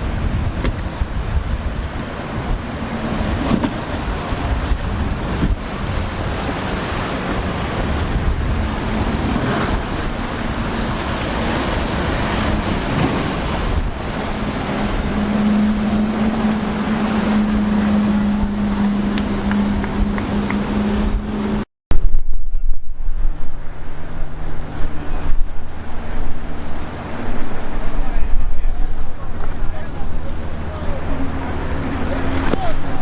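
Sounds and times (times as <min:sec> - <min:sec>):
motorboat engine drone: 0:00.0 - 0:21.7, 0:22.4 - 0:33.0
surf: 0:00.0 - 0:33.0
wind on microphone: 0:00.0 - 0:33.0.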